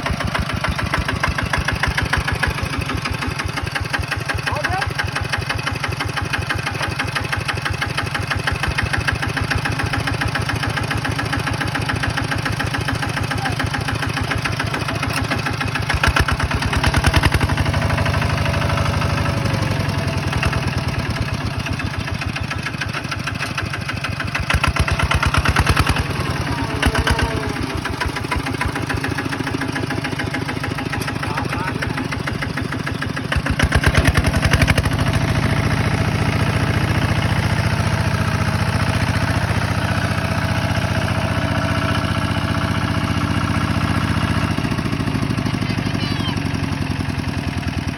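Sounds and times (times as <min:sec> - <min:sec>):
tractor diesel engine labouring: 0:00.0 - 0:47.9.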